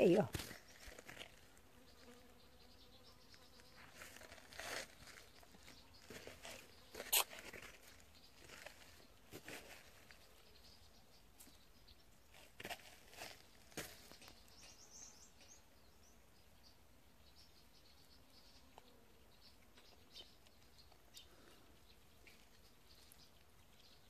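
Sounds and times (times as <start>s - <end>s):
faint outdoor ambience: 0.0s - 24.0s.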